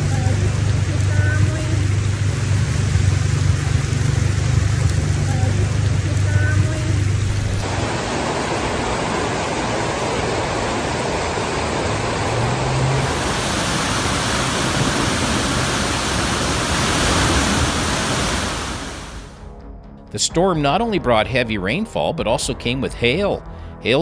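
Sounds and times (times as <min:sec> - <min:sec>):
floodwater running on street: 0:00.0 - 0:19.4
heavy rain: 0:00.0 - 0:19.4.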